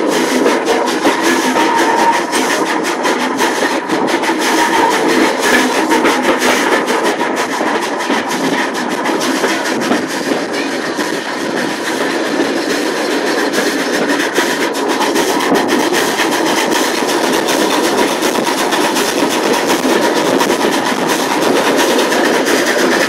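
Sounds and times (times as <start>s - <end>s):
wheels rushing on rails: 0.0s - 23.0s.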